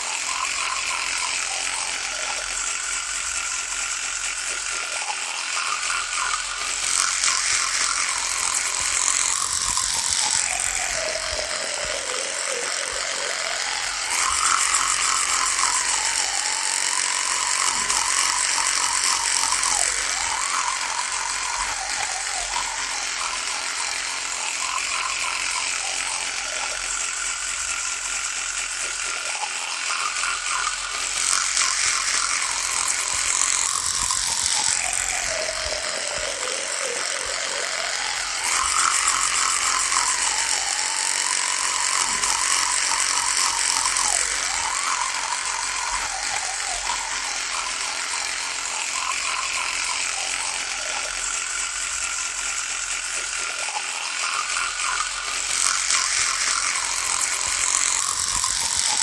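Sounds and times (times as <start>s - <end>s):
electric toothbrush buzzing: 0.0s - 59.0s.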